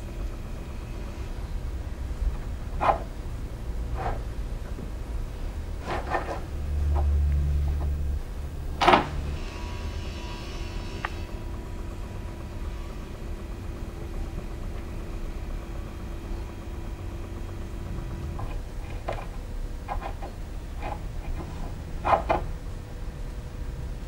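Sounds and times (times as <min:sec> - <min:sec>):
turntable hum and rumble: 0:00.0 - 0:24.0.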